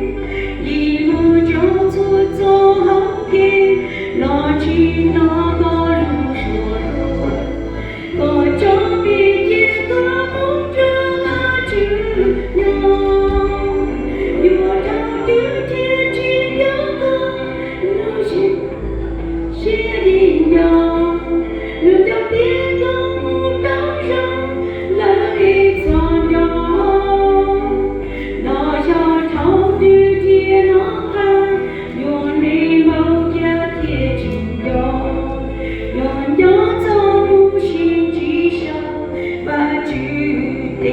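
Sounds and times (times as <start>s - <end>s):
sustained low bass notes: 0.0s - 40.9s.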